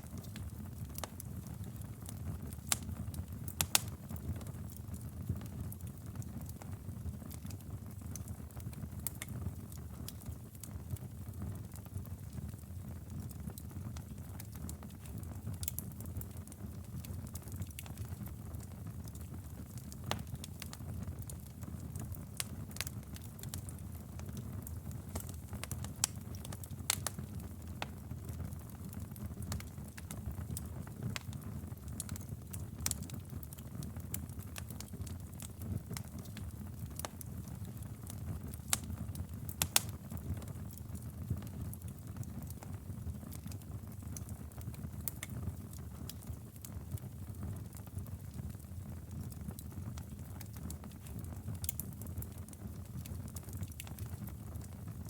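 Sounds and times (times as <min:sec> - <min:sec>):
fire flames rumbling: 0:00.0 - 0:09.4, 0:14.0 - 0:54.5
fire crackling and popping: 0:00.0 - 0:55.0.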